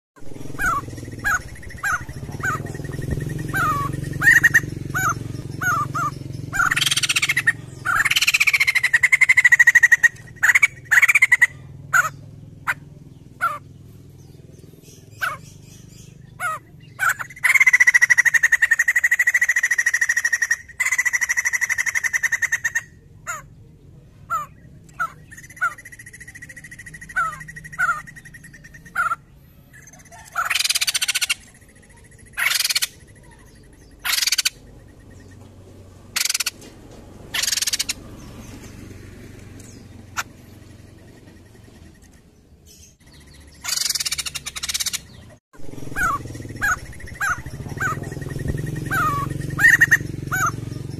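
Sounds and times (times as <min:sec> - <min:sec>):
bird rapid pulsing trill: 0:00.2 - 0:23.4, 0:24.3 - 0:35.4, 0:36.0 - 0:36.6, 0:37.3 - 0:50.9
laughingthrush singing: 0:00.2 - 0:23.6, 0:24.2 - 0:36.6, 0:37.2 - 0:50.9.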